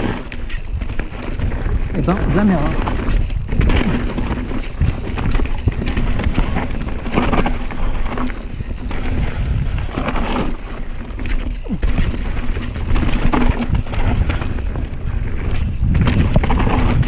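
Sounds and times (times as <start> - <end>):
bike clattering over bumps: 0.0 - 17.0
tyres rumbling over dirt: 0.0 - 17.0.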